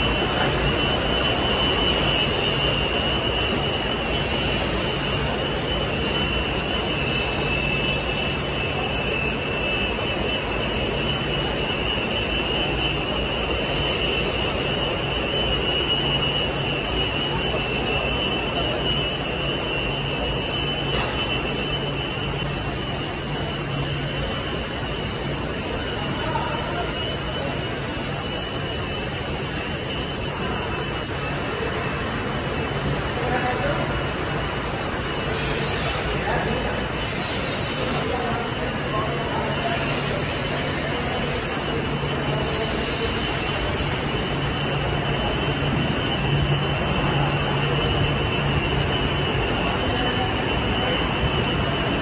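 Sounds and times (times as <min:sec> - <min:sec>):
faint high whine: 0:00.0 - 0:52.0
industrial machinery drone: 0:00.0 - 0:52.0.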